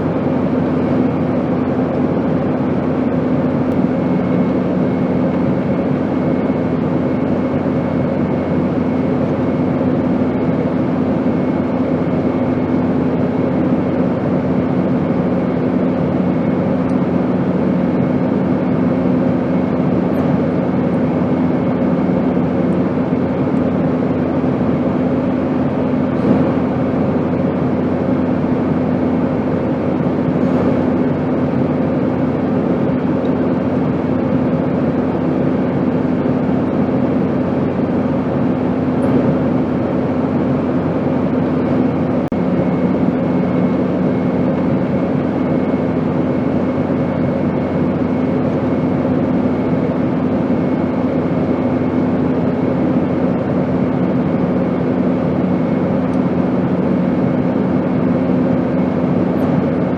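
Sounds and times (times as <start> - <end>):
airplane drone: 0.0 - 59.9.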